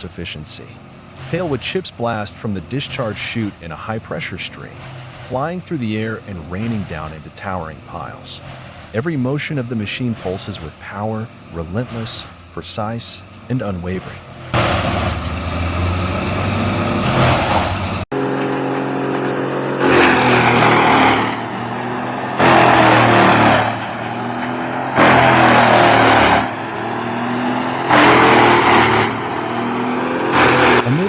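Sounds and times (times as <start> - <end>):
tree chipper engine running: 0.0 - 31.0.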